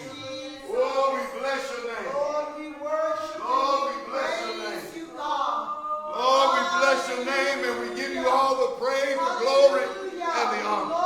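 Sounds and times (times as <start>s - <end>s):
voices singing along: 0.0s - 11.0s.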